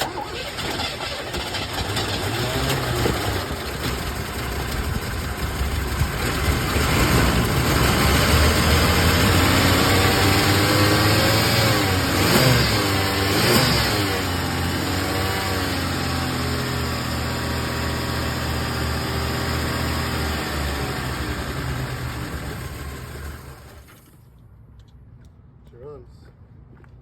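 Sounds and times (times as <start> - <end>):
engine revving: 0.0 - 23.9
car engine cranking and running roughly: 0.0 - 24.1.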